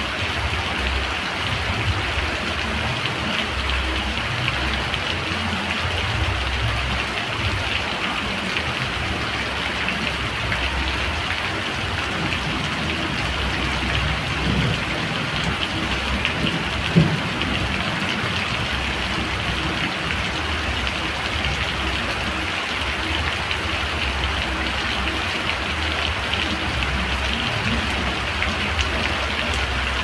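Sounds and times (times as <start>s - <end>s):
rain pattering on surfaces: 0.0s - 30.0s.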